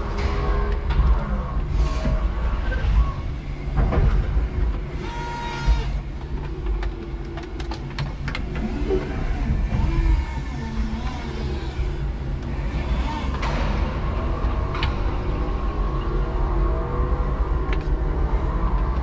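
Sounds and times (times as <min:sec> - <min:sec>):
forklift truck rumbling with rattles: 0:00.0 - 0:19.0.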